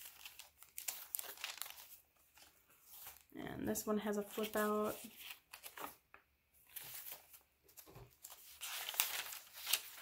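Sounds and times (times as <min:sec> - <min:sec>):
paper pages rustling: 0:00.0 - 0:03.3, 0:04.2 - 0:10.0.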